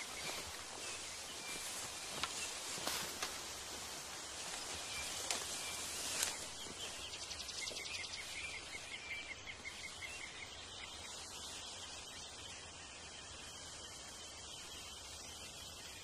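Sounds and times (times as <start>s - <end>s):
bird chirping: 0.0s - 3.2s, 4.2s - 16.0s.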